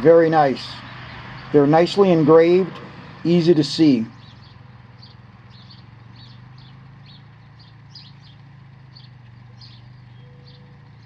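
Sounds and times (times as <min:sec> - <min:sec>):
bird chirping: 0:00.0 - 0:11.0
steady low hum: 0:00.0 - 0:11.0.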